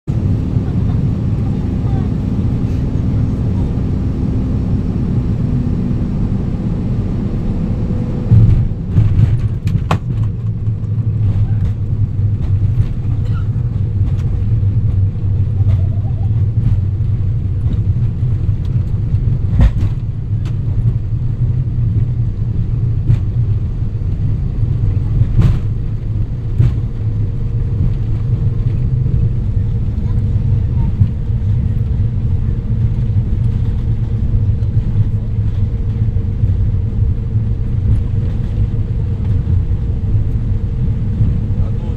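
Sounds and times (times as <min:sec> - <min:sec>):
airplane engine and airflow rumble: 0:00.0 - 0:41.9.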